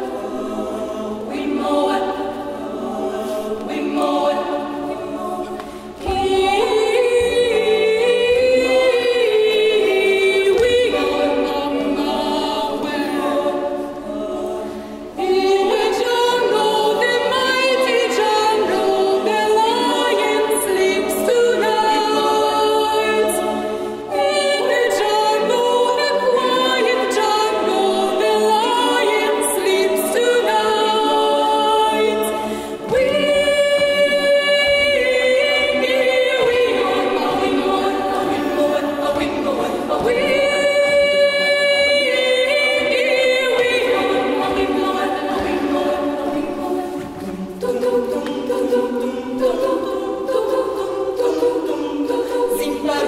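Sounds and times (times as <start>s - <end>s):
girls' choir singing a cappella: 0.0s - 53.0s.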